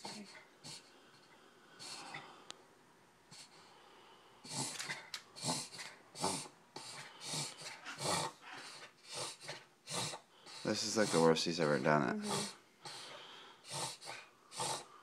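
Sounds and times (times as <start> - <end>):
dog breathing harshly: 0.0 - 2.3, 4.4 - 15.0.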